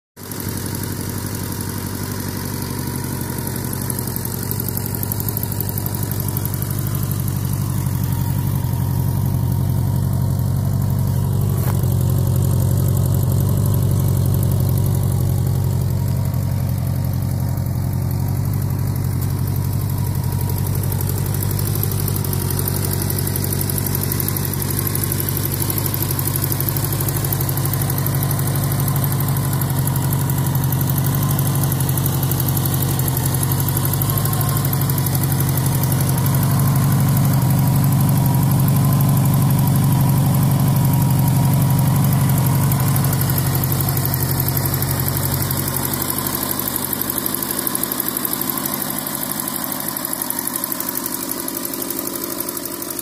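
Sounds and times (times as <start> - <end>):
motorcycle engine idling: 0.2 - 53.0.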